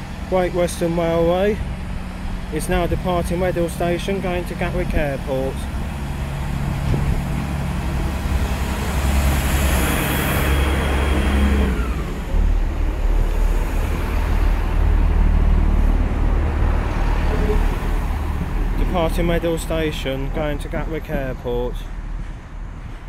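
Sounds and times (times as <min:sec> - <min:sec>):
diesel train engines passing: 0:00.0 - 0:23.0.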